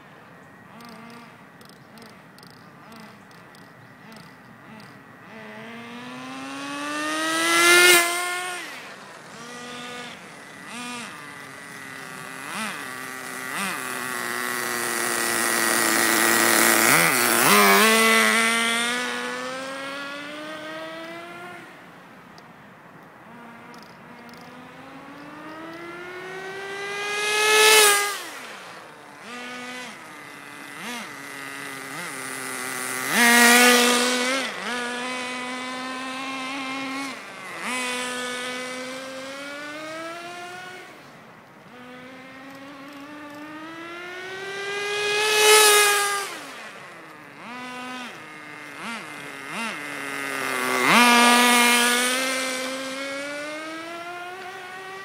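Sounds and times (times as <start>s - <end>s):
rc car engine passing by: 0.0s - 22.1s, 23.2s - 55.0s.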